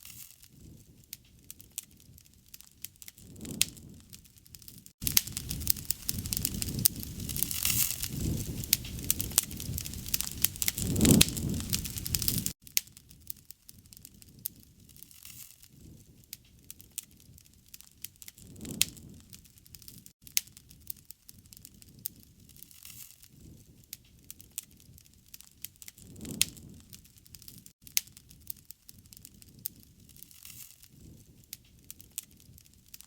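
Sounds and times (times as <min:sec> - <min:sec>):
wood fire crackling and popping: 0:00.0 - 0:33.0
low swells of flame: 0:00.4 - 0:15.0, 0:15.7 - 0:22.7, 0:23.3 - 0:32.7.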